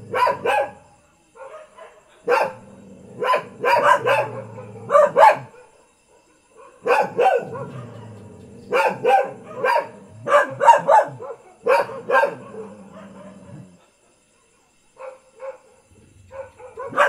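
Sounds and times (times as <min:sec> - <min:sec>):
dogs barking: 0:00.0 - 0:13.8, 0:15.0 - 0:17.0.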